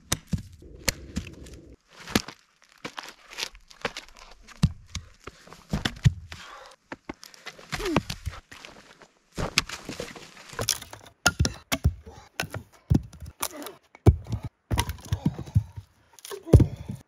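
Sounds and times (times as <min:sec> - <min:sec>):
logs and branches cracking: 0:00.0 - 0:17.0.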